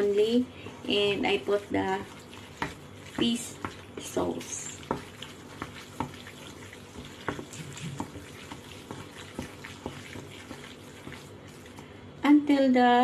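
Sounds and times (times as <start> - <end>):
wet paste churning: 0.5 - 12.1.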